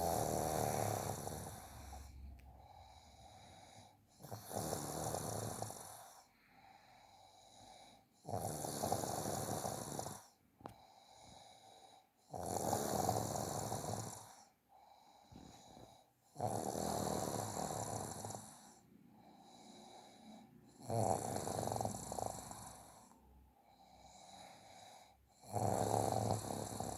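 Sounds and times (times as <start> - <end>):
person snoring: 0.0 - 6.3, 7.1 - 10.4, 12.3 - 14.5, 15.3 - 23.2, 23.8 - 26.9
quiet breathing: 0.0 - 26.9.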